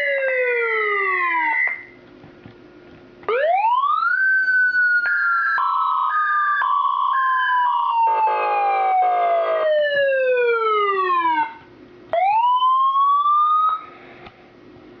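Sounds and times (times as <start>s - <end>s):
emergency vehicle siren wailing: 0.0s - 2.0s, 3.3s - 14.0s
two-tone hi-lo siren: 0.0s - 2.0s, 3.3s - 13.9s.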